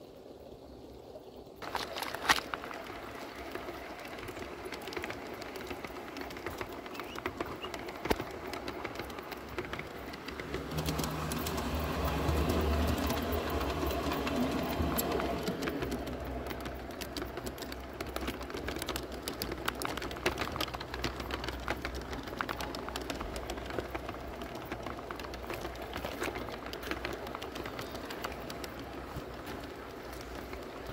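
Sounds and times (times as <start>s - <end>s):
wheels clicking on rails: 1.5s - 30.9s
model train motor hum: 2.2s - 30.9s.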